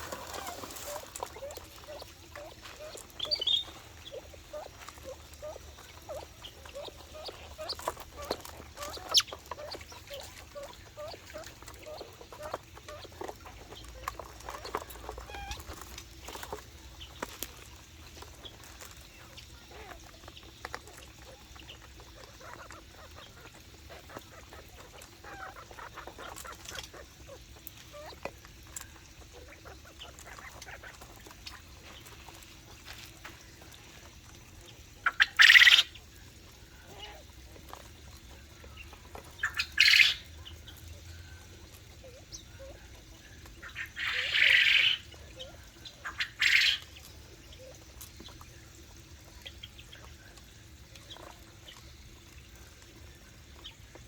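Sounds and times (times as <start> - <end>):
birds calling softly: 0.0 - 54.0
small clicks and chirps: 0.3 - 54.0.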